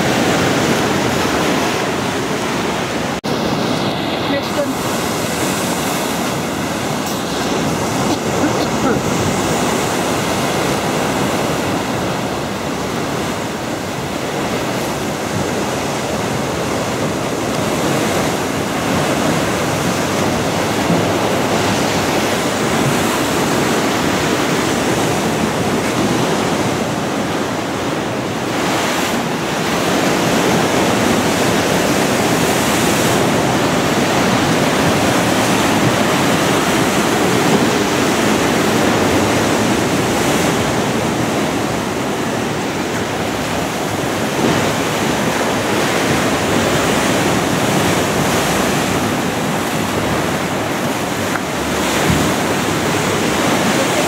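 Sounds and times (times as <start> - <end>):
rough surf against seawall: 0.0 - 54.0.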